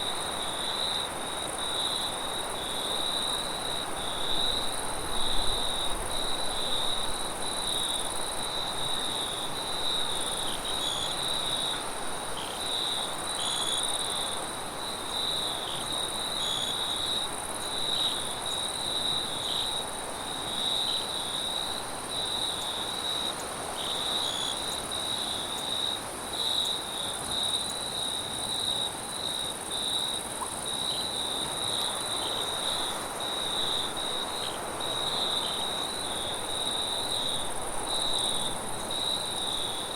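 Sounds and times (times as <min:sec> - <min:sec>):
crickets chirping: 0:00.0 - 0:39.9
high insect hiss: 0:00.0 - 0:39.9.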